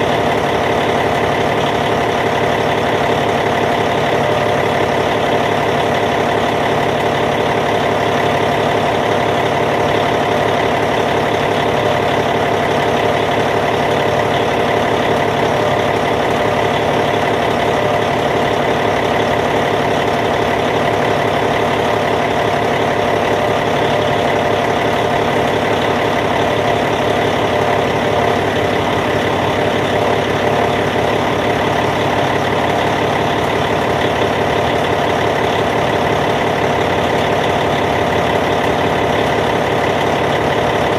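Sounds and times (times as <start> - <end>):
bulldozer diesel engine idling: 0.0 - 40.9.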